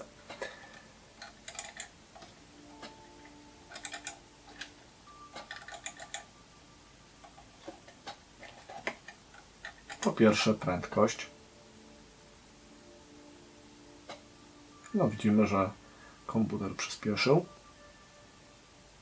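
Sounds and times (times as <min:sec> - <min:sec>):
faint steady tones: 0:00.0 - 0:19.0.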